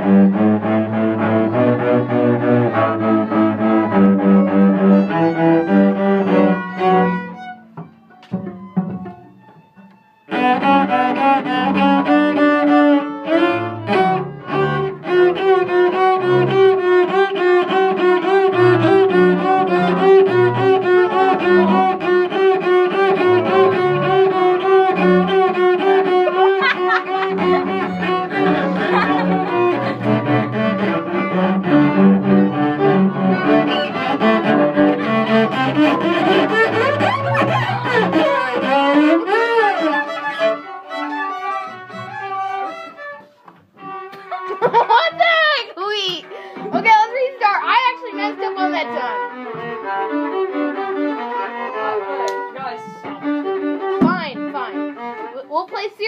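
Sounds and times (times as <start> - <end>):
cello playing: 0.0 - 55.6
bowed string instrument: 0.0 - 56.0.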